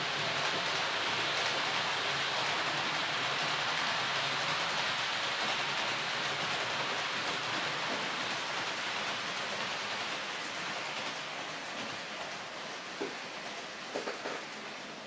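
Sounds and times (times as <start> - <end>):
model train rolling on rails: 0.0 - 15.0.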